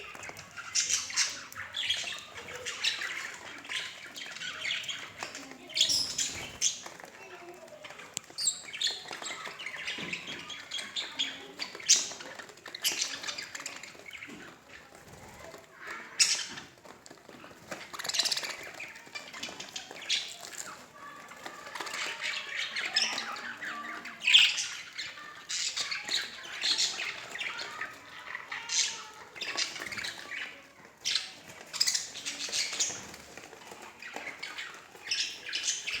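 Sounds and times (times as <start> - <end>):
budgerigars chattering: 0.0 - 7.0, 8.1 - 16.8, 21.9 - 36.0.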